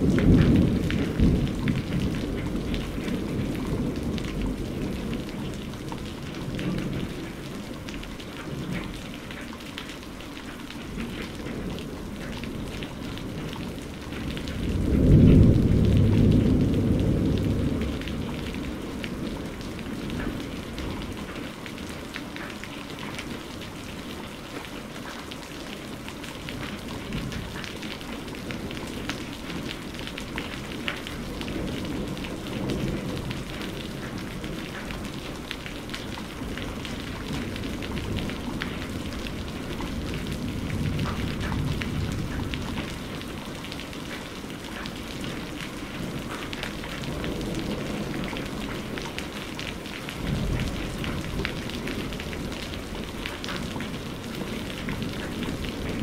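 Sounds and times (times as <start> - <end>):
distant thunder rumbling: 0.0 - 9.0, 11.0 - 21.4, 26.5 - 56.0
heavy rain pattering: 0.0 - 56.0.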